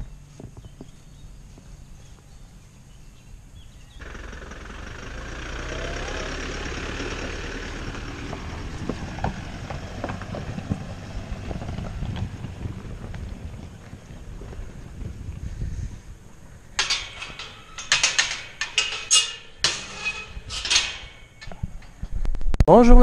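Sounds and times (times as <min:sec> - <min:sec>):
tyres crunching over gravel: 0:00.0 - 0:22.0
car engine low rumble: 0:00.0 - 0:23.0.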